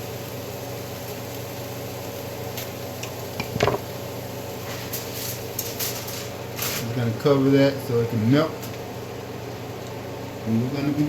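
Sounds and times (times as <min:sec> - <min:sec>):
low stovetop hum: 0:00.0 - 0:11.0.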